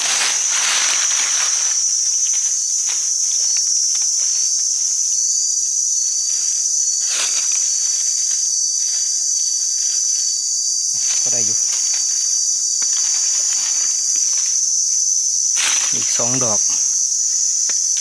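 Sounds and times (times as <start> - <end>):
rustling noises: 0.0 - 5.4, 6.2 - 18.0
high-pitched insect chorus: 0.0 - 18.0.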